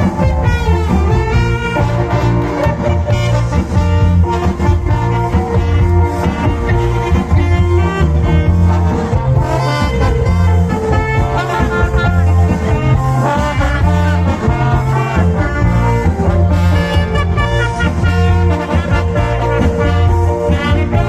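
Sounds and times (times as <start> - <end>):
loud cha-cha dance music: 0.0 - 21.0.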